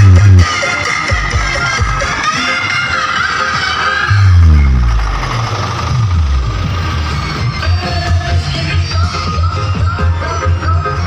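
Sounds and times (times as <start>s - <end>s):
music over sound system: 0.0s - 11.0s.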